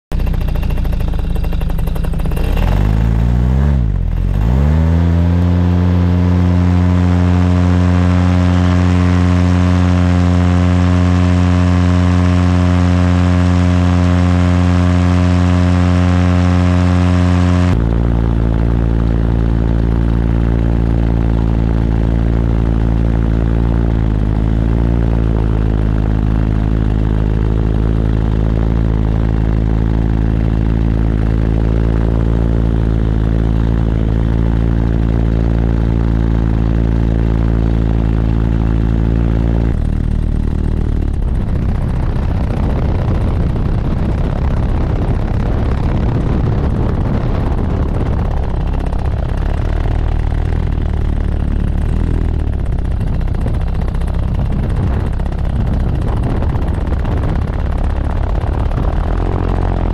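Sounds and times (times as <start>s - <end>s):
paramotor engine and propeller: 0.0s - 59.9s.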